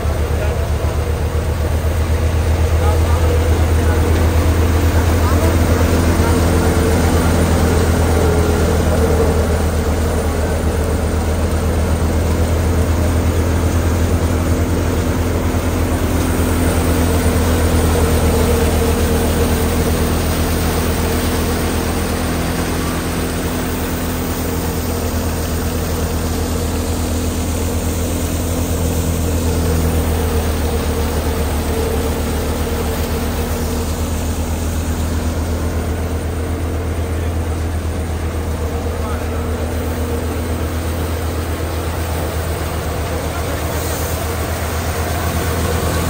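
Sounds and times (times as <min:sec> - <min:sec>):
thresher drum whirring: 0:00.0 - 0:46.0
tractor engine drone: 0:00.0 - 0:46.0.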